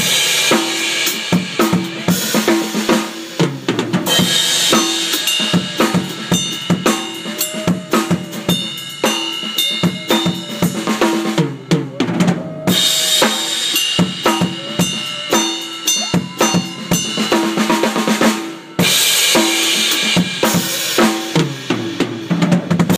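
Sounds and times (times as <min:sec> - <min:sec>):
cymbal crashes: 0:00.0 - 0:11.6, 0:12.7 - 0:22.4
drum kit groove: 0:00.0 - 0:22.9.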